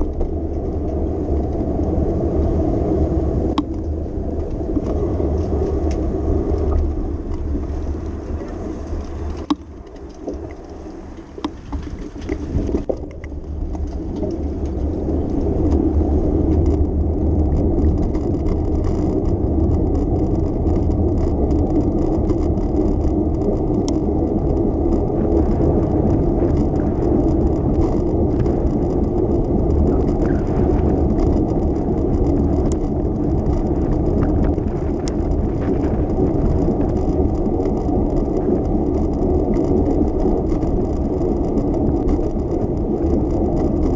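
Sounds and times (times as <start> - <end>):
bicycle tyres rumbling on road: 0.0 - 43.9
bike rattling: 0.0 - 43.9.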